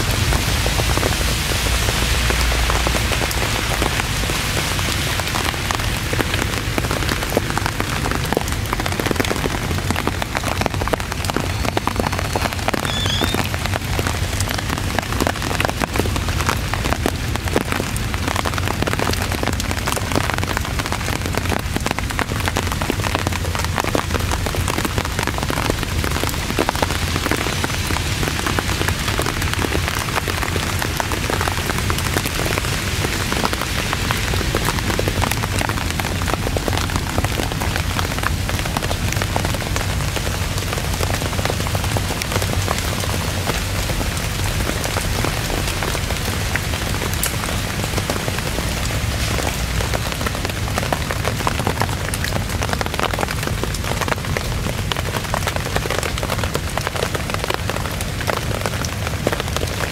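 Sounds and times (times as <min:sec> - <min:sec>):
torrential rain: 0:00.0 - 0:59.9.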